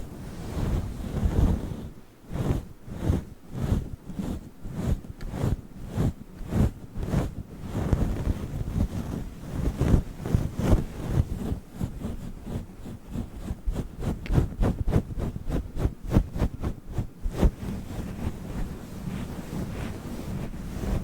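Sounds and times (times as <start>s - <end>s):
microphone windscreen being rubbed: 0.0s - 21.0s.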